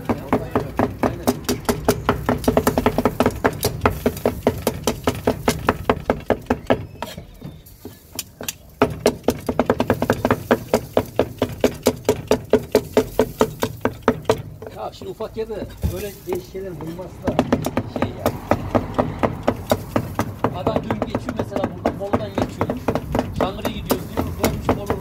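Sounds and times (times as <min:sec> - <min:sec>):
cleaver chopping on a block: 0:00.0 - 0:07.2, 0:08.1 - 0:15.1, 0:15.8 - 0:25.0.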